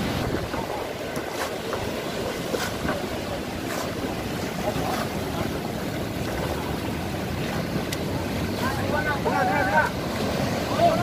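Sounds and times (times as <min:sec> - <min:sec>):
surf breaking on a beach: 0:00.0 - 0:11.0
wind rumbling on microphone: 0:00.0 - 0:11.0.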